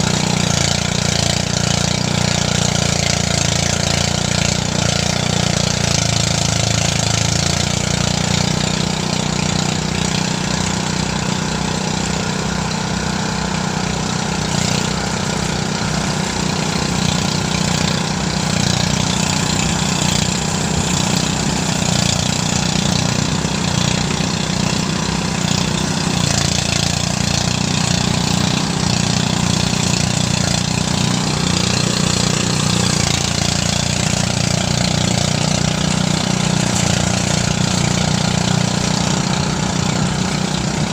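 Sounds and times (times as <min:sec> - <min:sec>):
thresher engine beat: 0:00.0 - 0:40.9.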